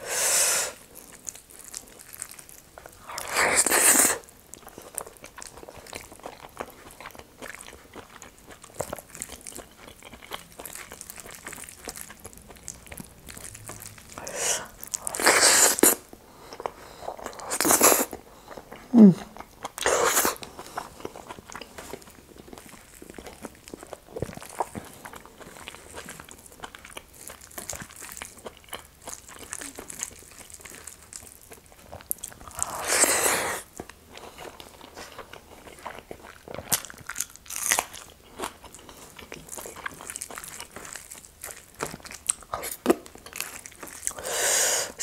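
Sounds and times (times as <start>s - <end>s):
person chewing food: 0.0s - 45.0s.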